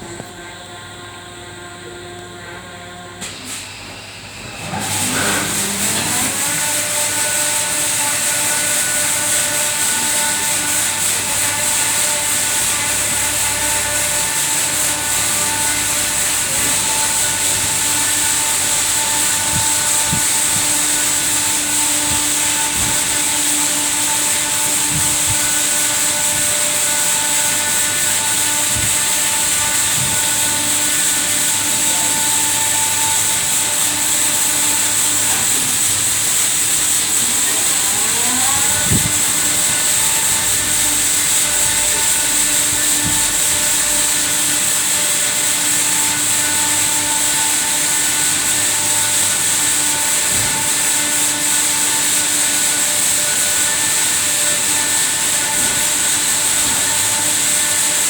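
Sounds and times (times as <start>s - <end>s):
motors and pumps whining: 0.0s - 58.0s
spraying water hiss: 5.0s - 58.0s.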